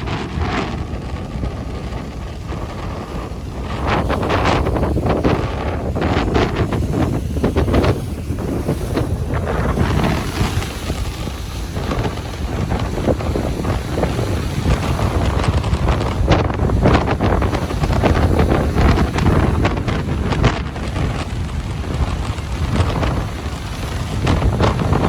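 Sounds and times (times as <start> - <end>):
ocean surf washing: 0.0 - 25.0
wind buffeting microphone: 0.0 - 25.0.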